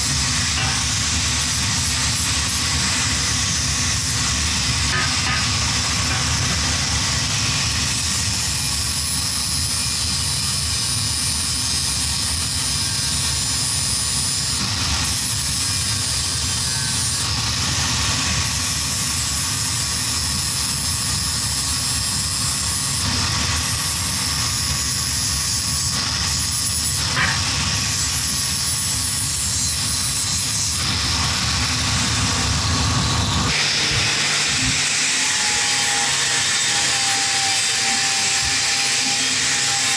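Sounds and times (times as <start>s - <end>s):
angle grinder grinding metal: 0.0s - 39.9s.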